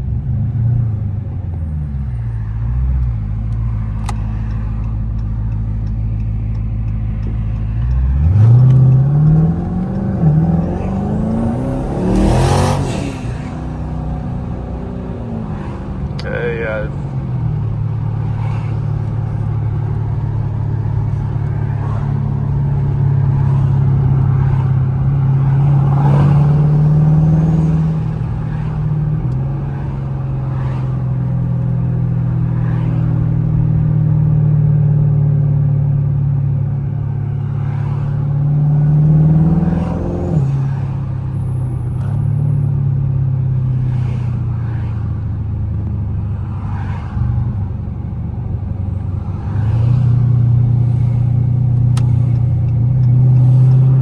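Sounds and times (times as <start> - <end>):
car engine revving: 0.0 - 47.7, 48.8 - 54.0.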